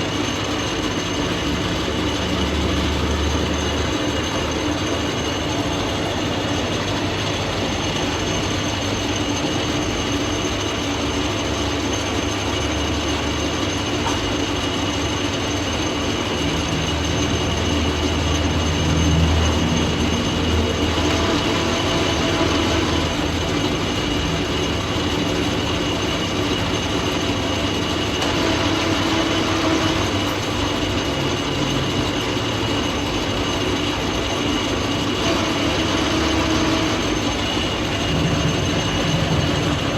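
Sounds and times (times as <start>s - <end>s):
metal lathe humming: 0.0s - 39.9s.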